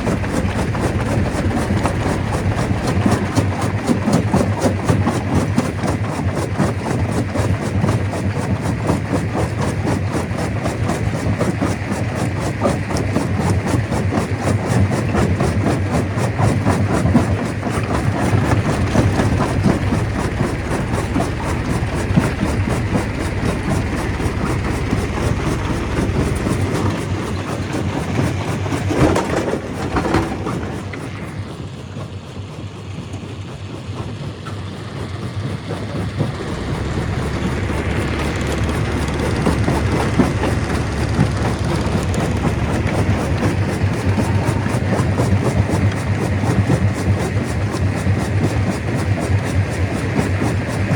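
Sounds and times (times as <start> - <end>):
stone crusher machine running: 0.0 - 50.9.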